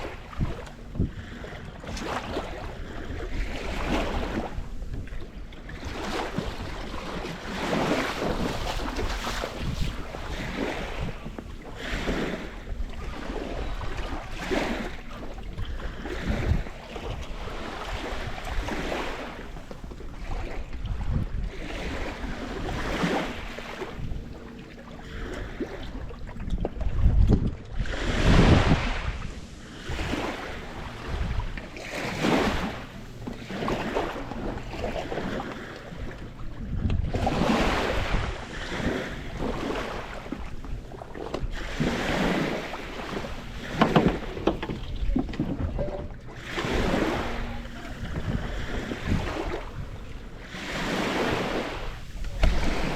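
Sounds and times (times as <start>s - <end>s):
waves washing in: 0.0s - 52.9s
wind buffeting microphone: 0.0s - 52.9s.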